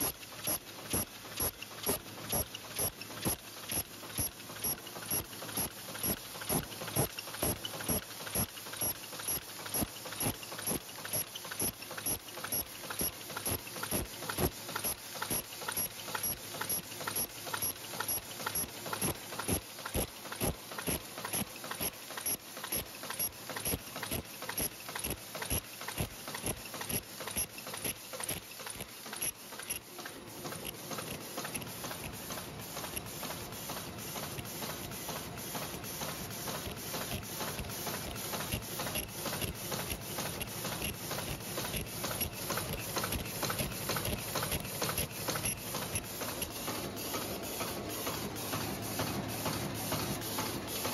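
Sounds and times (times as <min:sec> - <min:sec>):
machine clattering: 0:00.2 - 0:50.9.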